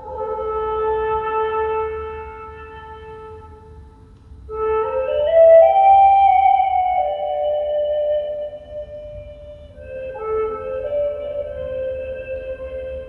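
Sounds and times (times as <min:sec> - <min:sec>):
flute playing held notes: 0:00.0 - 0:03.8, 0:04.5 - 0:13.0.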